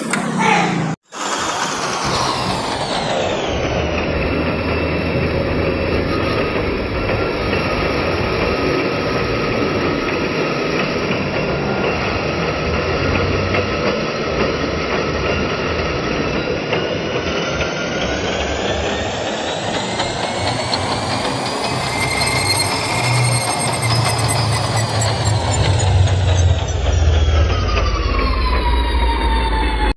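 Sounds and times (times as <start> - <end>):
metal lathe drone: 1.1 - 29.9.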